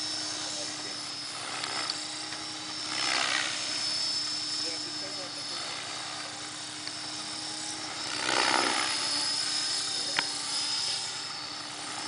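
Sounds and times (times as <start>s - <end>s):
helicopter rotor noise: 0.0s - 12.0s
motor and gears whining: 0.0s - 12.0s.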